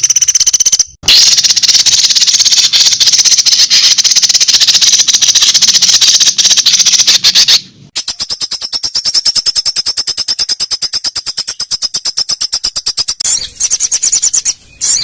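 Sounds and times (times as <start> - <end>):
clicking rattle with high tone: 0.0 - 7.4, 8.0 - 15.0
songbird rattling call: 0.0 - 15.0.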